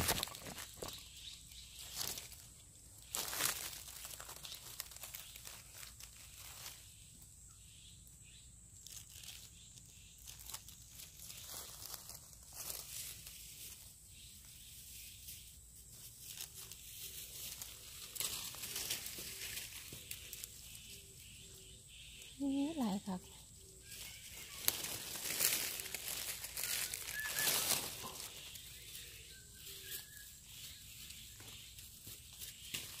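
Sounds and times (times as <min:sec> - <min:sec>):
crackles: 0:00.0 - 0:07.3, 0:08.0 - 0:33.0
rustling and crinkling: 0:00.0 - 0:07.4, 0:08.7 - 0:21.5, 0:23.0 - 0:33.0.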